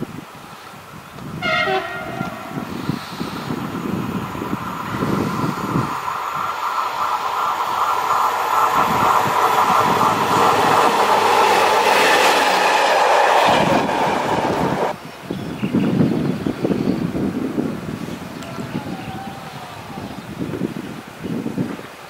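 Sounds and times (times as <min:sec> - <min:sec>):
freight train whine: 0:00.0 - 0:20.8
wind buffeting microphone: 0:00.0 - 0:22.0.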